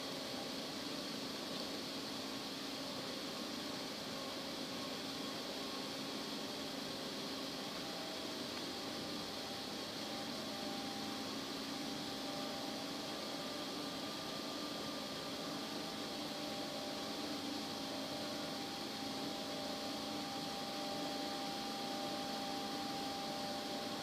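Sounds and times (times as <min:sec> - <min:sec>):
faint steady tones: 0:00.0 - 0:24.0
machine hum and hiss: 0:00.0 - 0:24.0.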